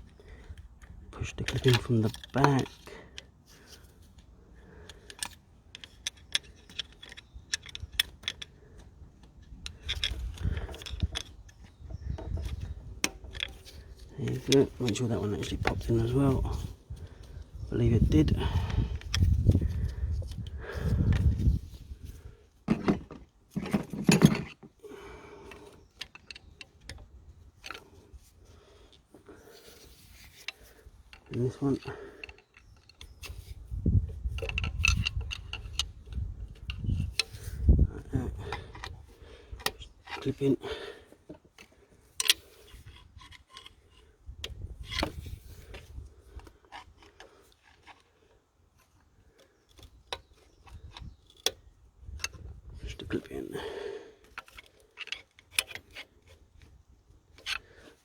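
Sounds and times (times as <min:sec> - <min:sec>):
plastic parts clicking and rubbing: 0:00.0 - 0:53.3, 0:54.2 - 0:58.0.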